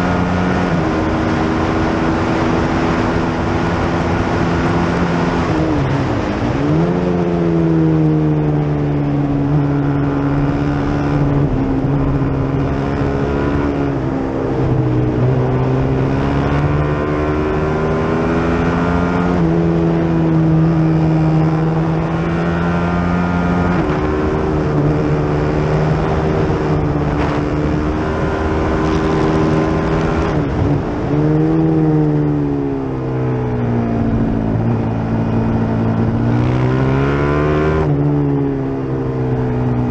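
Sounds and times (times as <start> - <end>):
wind rush: 0.0 - 16.7, 19.3 - 36.8
motorcycle engine at racing speed: 0.0 - 39.9.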